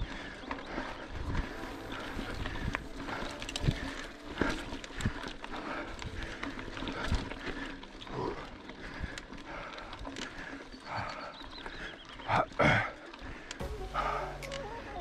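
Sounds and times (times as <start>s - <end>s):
bike tyres on dirt trail: 0.0s - 15.0s.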